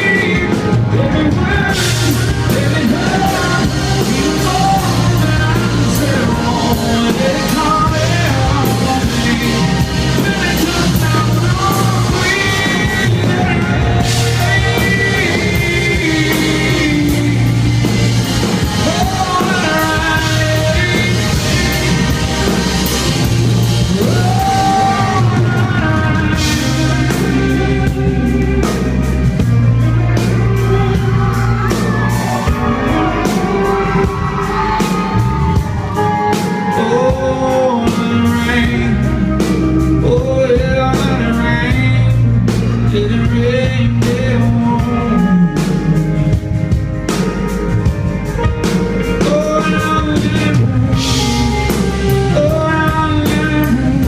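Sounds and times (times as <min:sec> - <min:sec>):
live country rock band: 0:00.0 - 0:54.0
man singing: 0:00.0 - 0:54.0.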